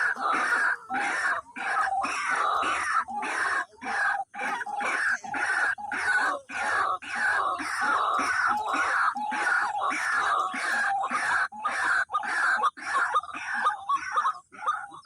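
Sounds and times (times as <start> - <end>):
waterhen calling harshly: 0.0 - 15.0.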